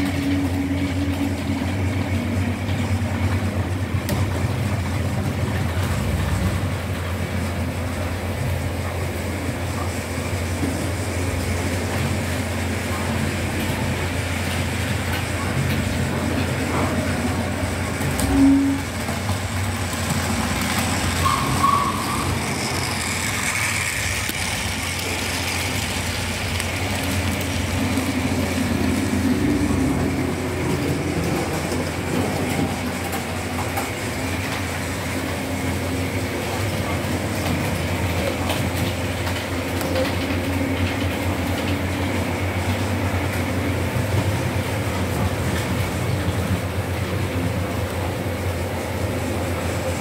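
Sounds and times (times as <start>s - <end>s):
model train humming: 0.0s - 50.0s
wheel and rail noise: 0.0s - 50.0s.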